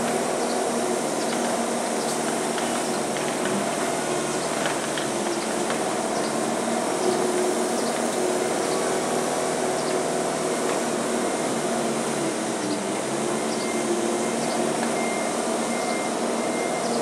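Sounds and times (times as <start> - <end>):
skid steer diesel engine: 0.0 - 17.0.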